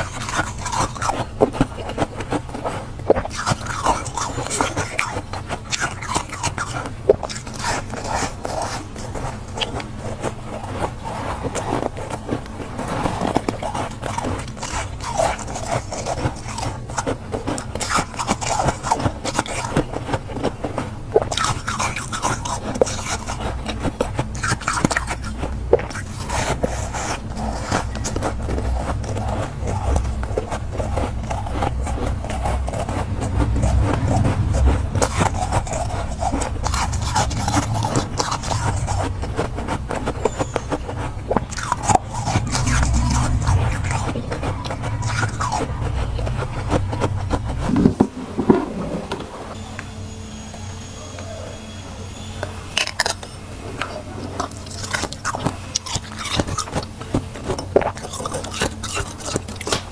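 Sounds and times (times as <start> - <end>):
frost crunching and scraping: 0.0 - 49.6, 52.7 - 59.9.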